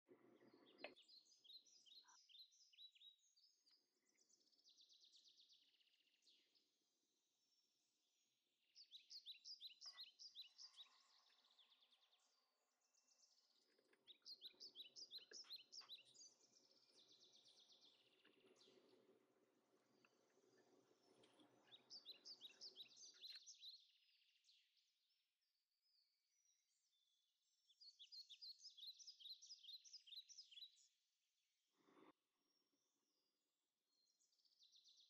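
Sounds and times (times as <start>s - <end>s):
faint birdsong: 0.0s - 35.0s.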